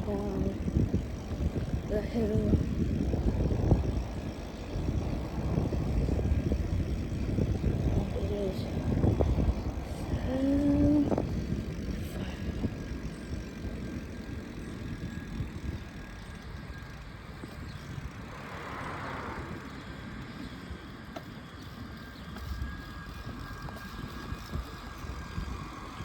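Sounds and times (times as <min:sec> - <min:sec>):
bicycle tyre noise: 0:00.0 - 0:26.0
wind rumbling over microphone: 0:00.0 - 0:26.0.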